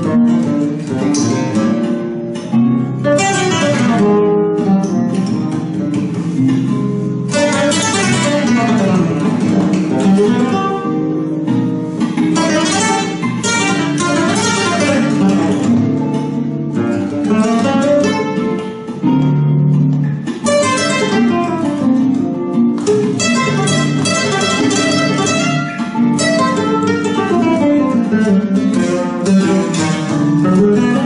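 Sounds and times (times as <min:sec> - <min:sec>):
flamenco guitar playing: 0:00.0 - 0:31.0.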